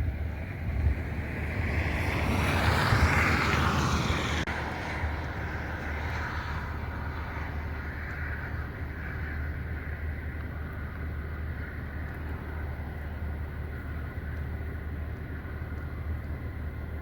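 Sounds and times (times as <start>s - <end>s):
vehicle road rumble: 0.0s - 17.0s.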